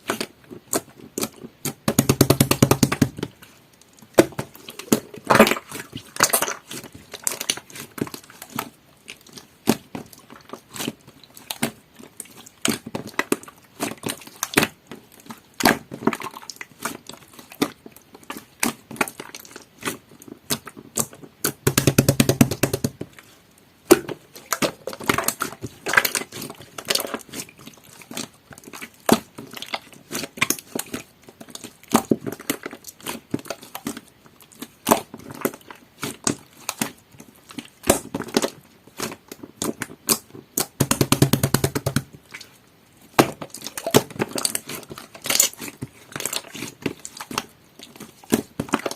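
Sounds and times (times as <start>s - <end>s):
slime squished by hand: 0.0s - 48.9s.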